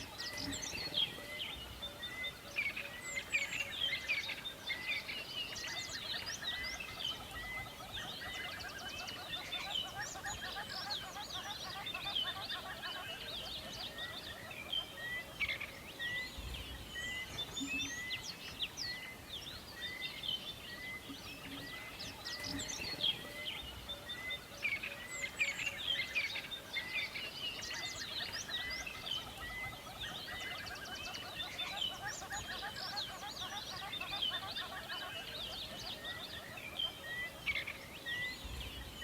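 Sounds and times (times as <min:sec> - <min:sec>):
songbird chorus: 0:00.0 - 0:39.0.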